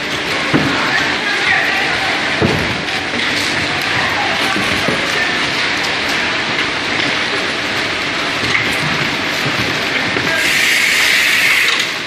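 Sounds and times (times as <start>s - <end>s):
carton rushing through sealer: 0.0s - 12.0s
factory machine noise: 0.0s - 12.0s
tape sealer machine running: 0.0s - 12.0s.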